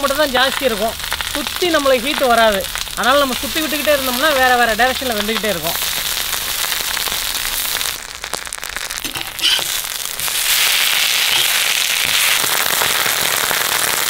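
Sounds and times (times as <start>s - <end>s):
oil sizzling and popping: 0.0s - 14.0s.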